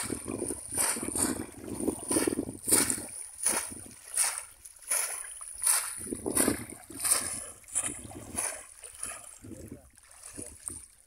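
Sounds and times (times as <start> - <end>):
shallow water splashing: 0.0 - 11.0.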